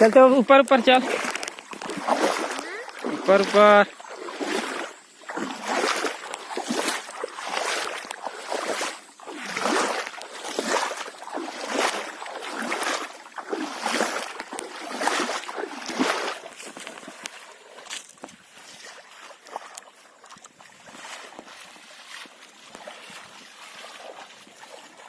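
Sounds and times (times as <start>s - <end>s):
river water swishing and splashing: 0.0s - 25.0s.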